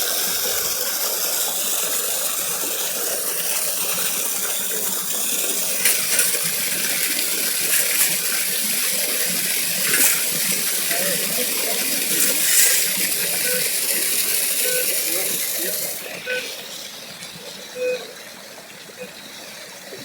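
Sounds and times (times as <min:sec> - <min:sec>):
waterfall splashing into pool: 0:00.0 - 0:18.7.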